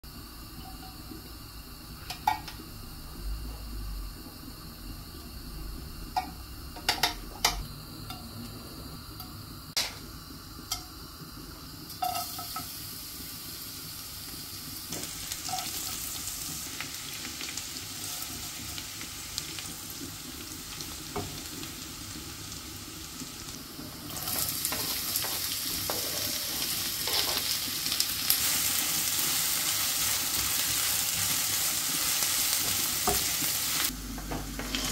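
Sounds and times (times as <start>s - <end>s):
food sizzling in oil: 4.0s - 34.9s.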